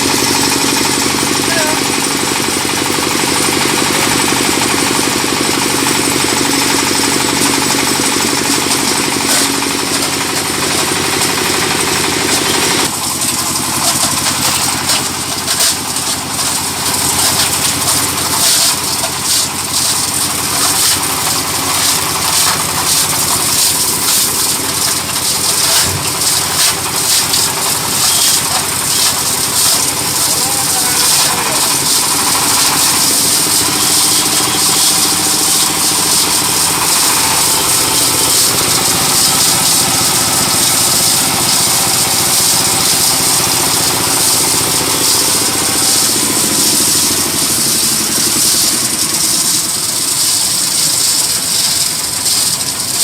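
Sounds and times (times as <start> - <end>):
shredder crackling and clattering: 0.0 - 53.0
small diesel engine running: 0.0 - 53.0.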